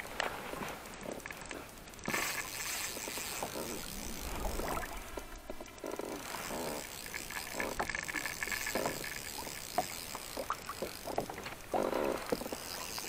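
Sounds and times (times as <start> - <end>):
small knocks and clicks of gear: 0.0 - 13.0
water lapping against kayak hull: 0.0 - 13.0.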